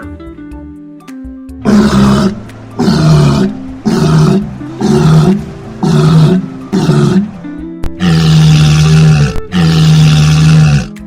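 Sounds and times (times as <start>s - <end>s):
background music: 0.0s - 11.0s
big cat roaring: 1.7s - 11.0s.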